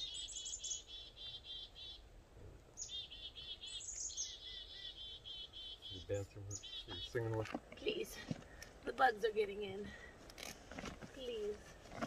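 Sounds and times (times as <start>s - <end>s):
songbird singing: 0.0s - 10.5s.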